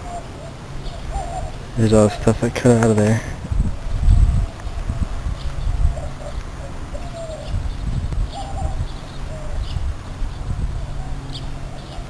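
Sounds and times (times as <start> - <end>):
birds cooing: 0.0 - 12.0.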